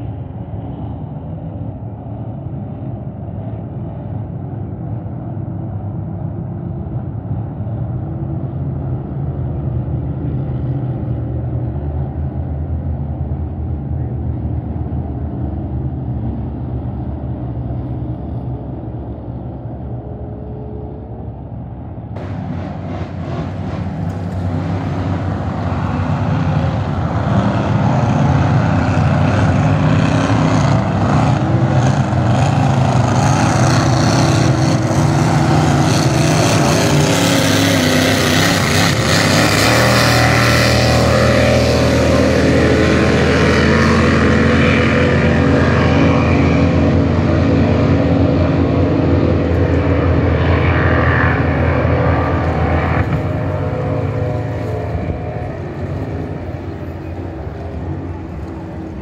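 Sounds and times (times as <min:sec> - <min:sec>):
racing power boat engines: 0:00.0 - 0:59.0.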